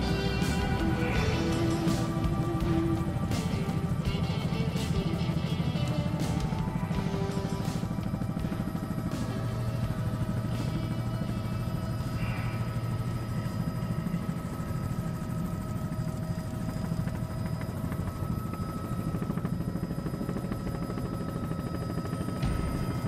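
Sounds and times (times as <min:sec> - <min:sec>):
helicopter turbine whine: 0:00.0 - 0:23.0.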